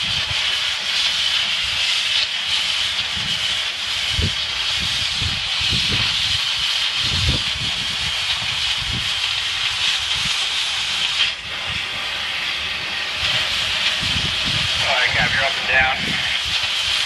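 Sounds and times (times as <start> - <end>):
cutting torch hissing: 0.0 - 17.0.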